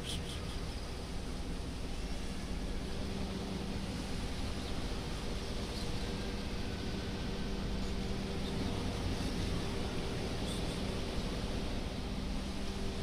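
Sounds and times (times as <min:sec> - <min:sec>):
faint even hum: 0:00.0 - 0:13.0
steady background hiss: 0:00.0 - 0:13.0.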